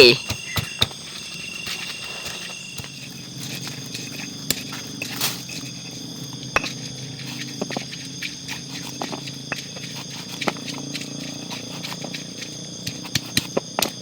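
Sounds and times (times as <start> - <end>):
high ringing tones: 0.0 - 13.0.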